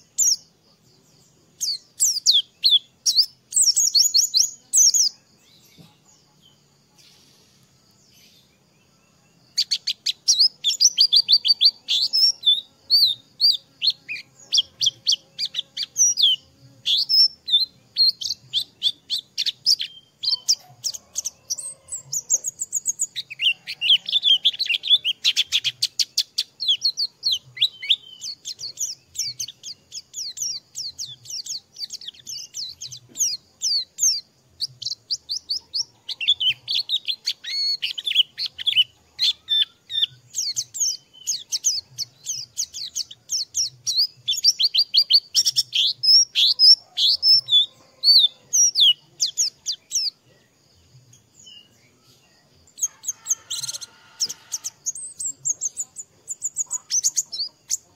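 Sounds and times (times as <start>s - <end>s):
bird twittering song: 0.0s - 57.9s.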